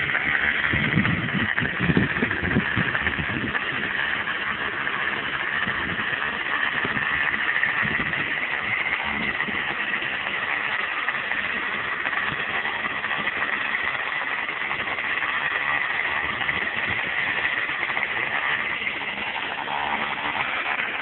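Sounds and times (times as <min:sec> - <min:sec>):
small engine high whine: 0:00.0 - 0:21.0.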